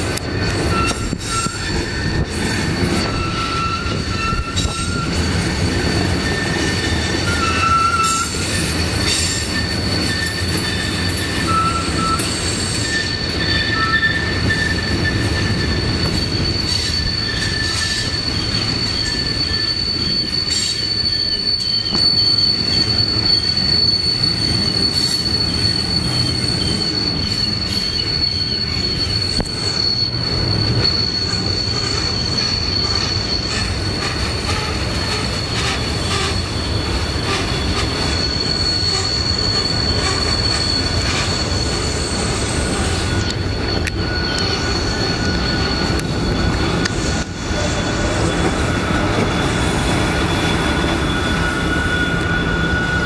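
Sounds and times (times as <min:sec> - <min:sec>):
rumble of wheels on rail: 0:00.0 - 0:53.0
wheel flanges squealing: 0:00.0 - 0:53.0.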